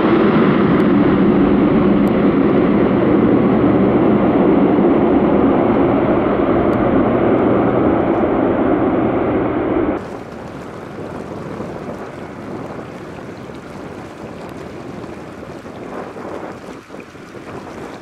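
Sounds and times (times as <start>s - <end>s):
aircraft engine noise: 0.0s - 18.0s
wind buffeting microphone: 0.0s - 18.0s.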